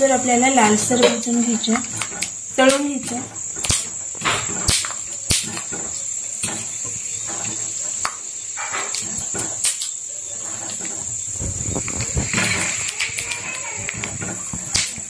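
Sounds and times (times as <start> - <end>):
peanuts frying in oil: 0.0 - 15.0.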